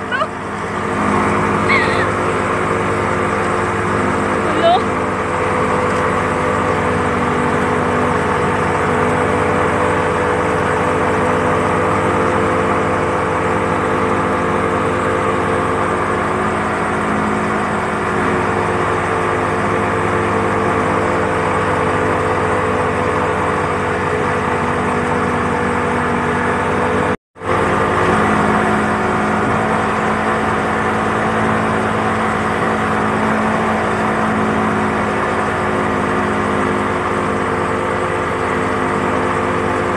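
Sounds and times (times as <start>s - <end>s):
rushing boat wake: 0.0s - 39.9s
speedboat engine running: 0.0s - 39.9s.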